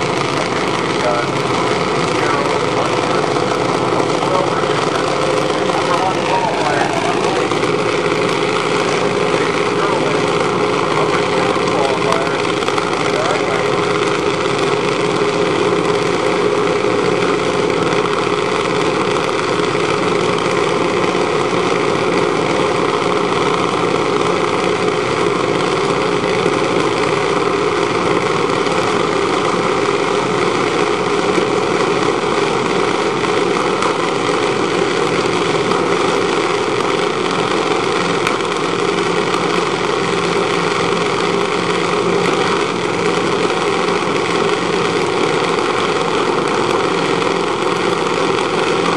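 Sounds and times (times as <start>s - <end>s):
small engine idling: 0.0s - 48.9s.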